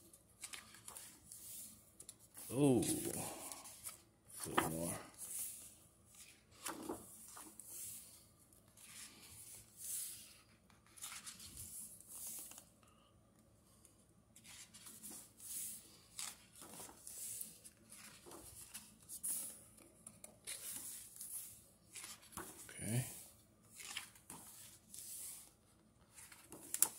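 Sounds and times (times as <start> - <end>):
pages turning: 0.3 - 12.7, 14.4 - 22.7, 23.7 - 25.5, 26.1 - 26.9.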